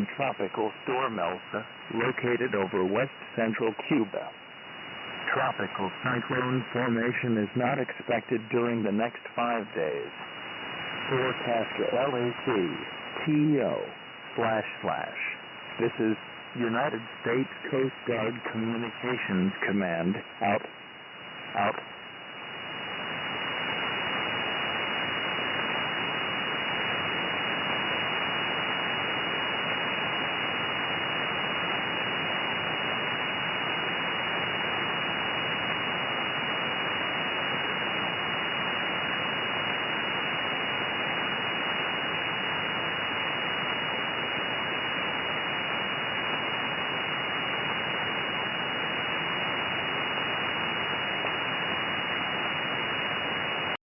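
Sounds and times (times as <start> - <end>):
radio static hiss: 0.0 - 53.8.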